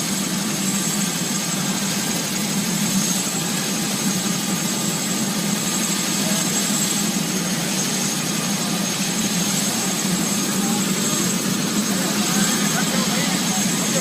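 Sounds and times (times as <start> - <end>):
helicopter rotor and engine: 0.0 - 14.0
high steady whine: 0.0 - 14.0.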